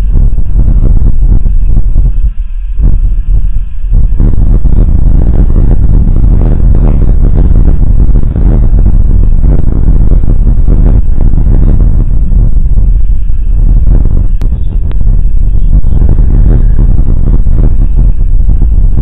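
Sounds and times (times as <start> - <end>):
distorted rumbling on microphone: 0.0 - 19.0.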